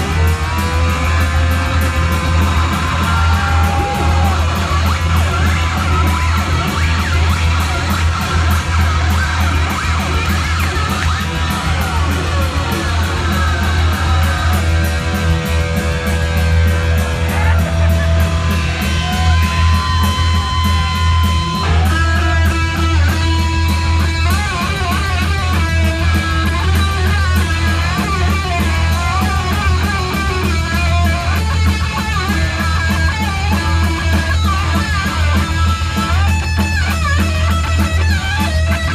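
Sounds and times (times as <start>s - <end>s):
electric guitar solo bending notes: 0.0s - 38.9s
heavy metal band playing live: 0.0s - 38.9s.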